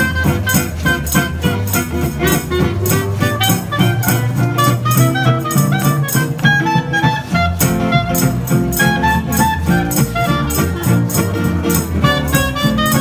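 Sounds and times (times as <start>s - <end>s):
clarinet melody: 0.0s - 13.0s
plucked upright bass: 0.0s - 13.0s
strummed acoustic guitar: 0.0s - 13.0s
washboard and cymbal beat: 0.0s - 13.0s.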